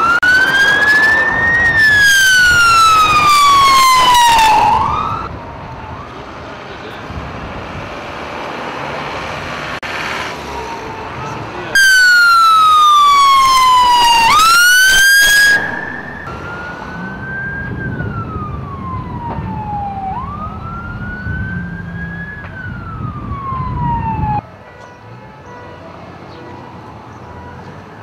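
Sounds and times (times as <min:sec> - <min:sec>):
emergency vehicle siren wailing: 0:00.0 - 0:07.9, 0:10.3 - 0:28.0.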